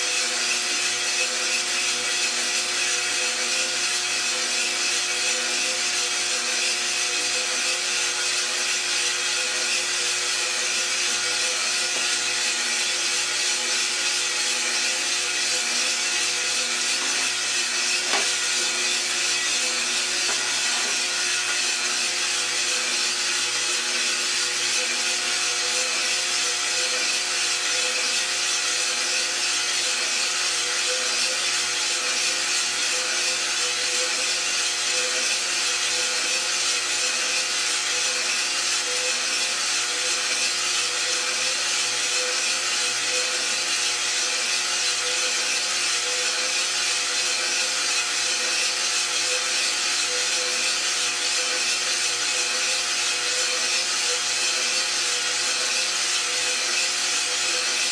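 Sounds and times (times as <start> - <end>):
coffee beans tumbling in drum: 0.0 - 57.9
roaster motor and fan hum: 0.0 - 57.9.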